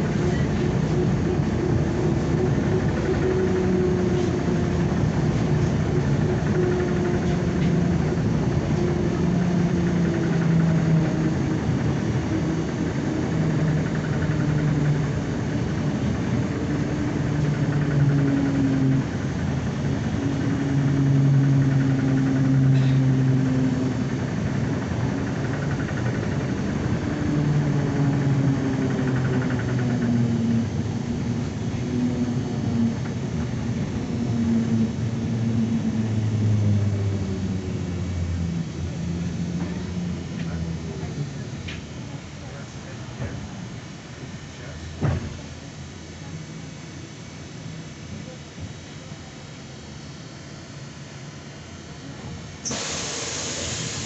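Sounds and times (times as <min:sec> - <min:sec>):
road and body rumble: 0:00.0 - 0:54.0.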